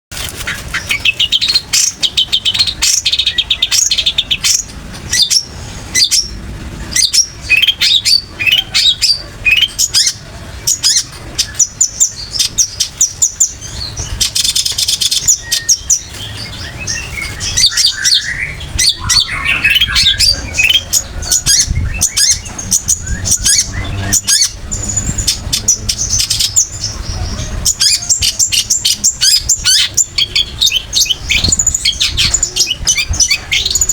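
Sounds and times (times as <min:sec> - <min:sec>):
bird singing chirps and trills: 0:00.4 - 0:33.9.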